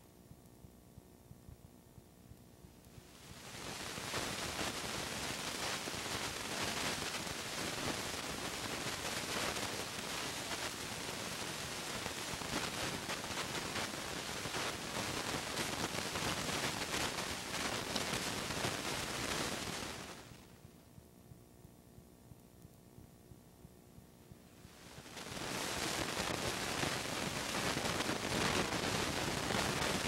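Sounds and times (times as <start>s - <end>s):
static hiss with crackling: 0.0s - 30.0s.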